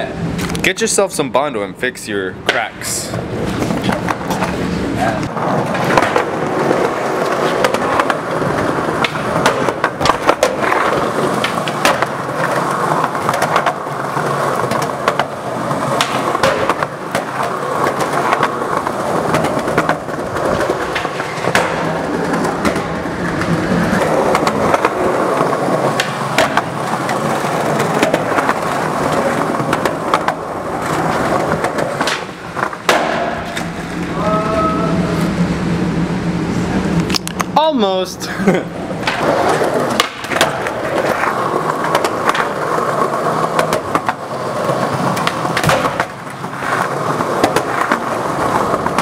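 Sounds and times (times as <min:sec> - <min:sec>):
skateboard wheels rolling on concrete: 0:00.0 - 0:49.0
skateboard clicks and clacks: 0:02.5 - 0:33.8, 0:39.0 - 0:49.0.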